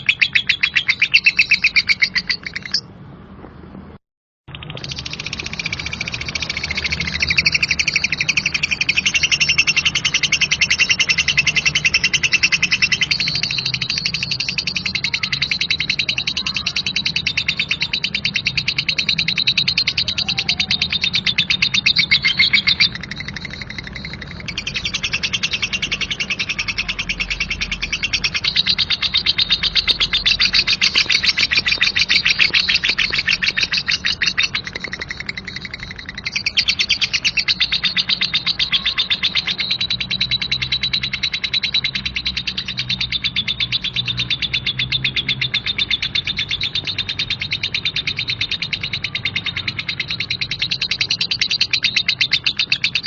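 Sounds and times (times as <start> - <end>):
lovebird chattering trill: 0.0 - 2.9, 4.5 - 53.0.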